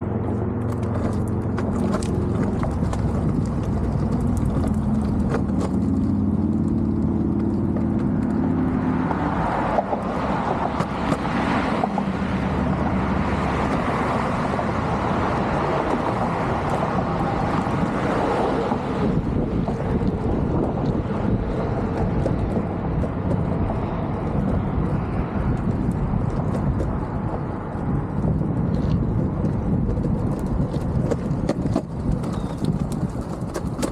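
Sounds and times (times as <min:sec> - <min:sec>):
skateboard wheels rolling on pavement: 0:00.0 - 0:33.9.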